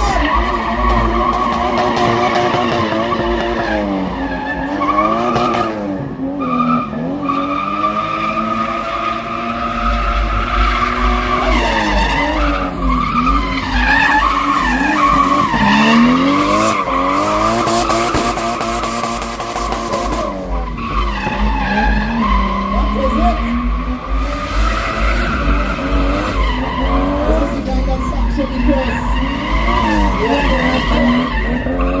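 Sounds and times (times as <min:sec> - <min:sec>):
car engine revving: 0:00.0 - 0:32.0
tyres squealing: 0:06.4 - 0:32.0.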